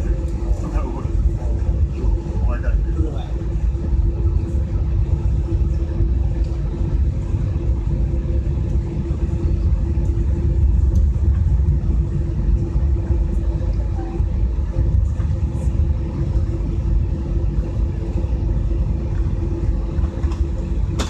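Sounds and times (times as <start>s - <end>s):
constant hum: 0.0s - 21.0s
engine and airflow rumble: 0.0s - 21.0s.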